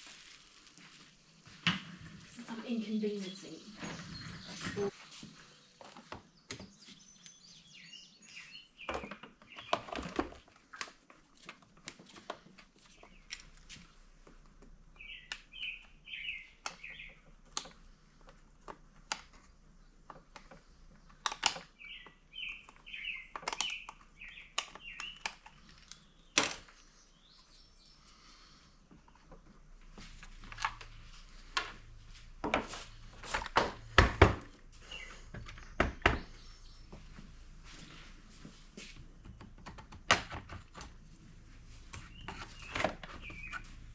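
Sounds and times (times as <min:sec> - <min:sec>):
birds chirping: 0:00.5 - 0:11.1, 0:12.0 - 0:43.9.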